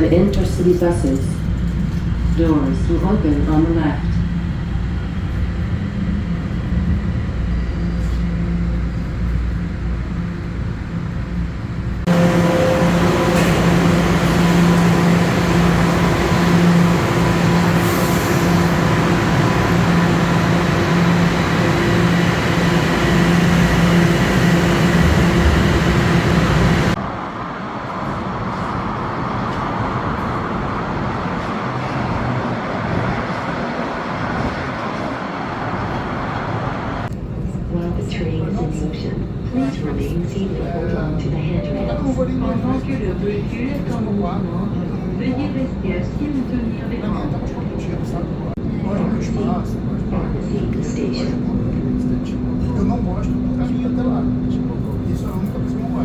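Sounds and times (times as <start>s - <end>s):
light rail car running hum: 0.0s - 56.0s.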